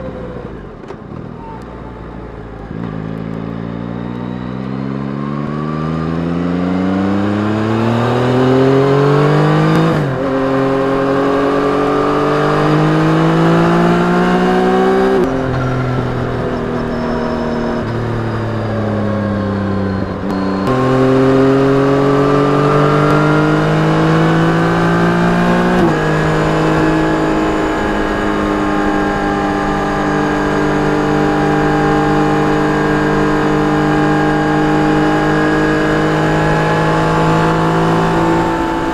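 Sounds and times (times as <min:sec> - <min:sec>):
motorcycle engine revving: 0:02.2 - 0:38.9.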